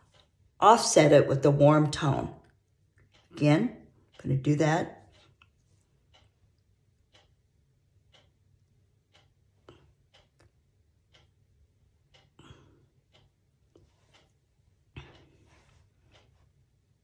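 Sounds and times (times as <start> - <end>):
faint ticking: 0.0 - 17.0
low steady hum: 0.0 - 17.0.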